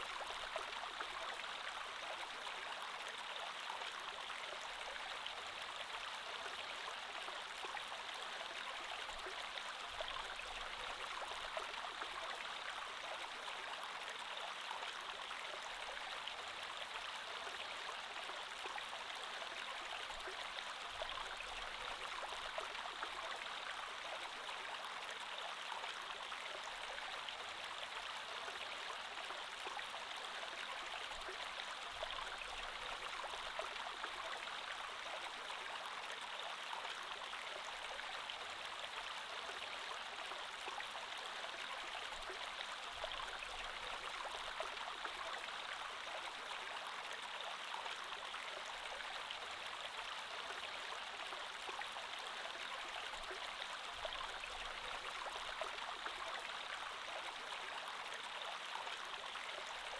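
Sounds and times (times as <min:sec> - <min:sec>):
creek water flowing over stones: 0:00.0 - 0:59.9.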